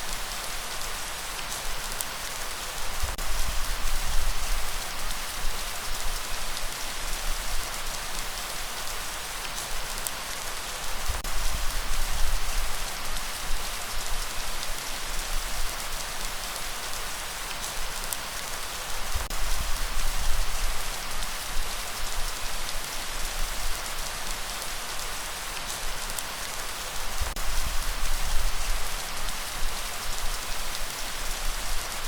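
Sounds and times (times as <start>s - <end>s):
light rain hiss: 0.0s - 32.0s.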